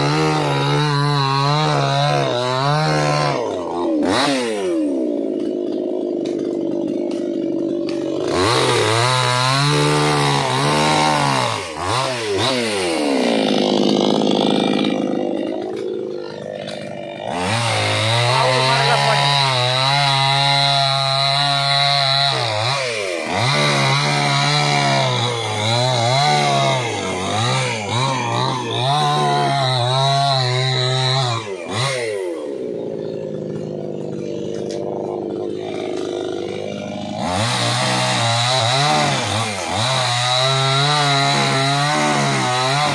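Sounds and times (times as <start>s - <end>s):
chainsaw revving and cutting: 0.0s - 42.9s.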